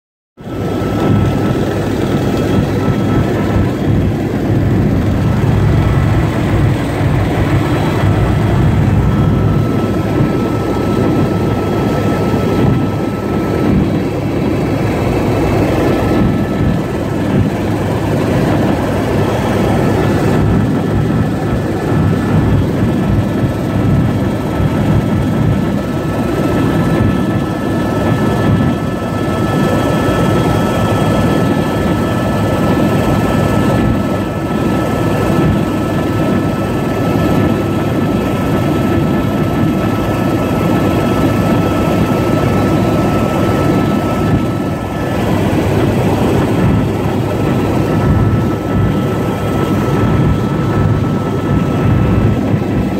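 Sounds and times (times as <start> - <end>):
helicopter rotor and engine rumble: 0.4 - 52.9.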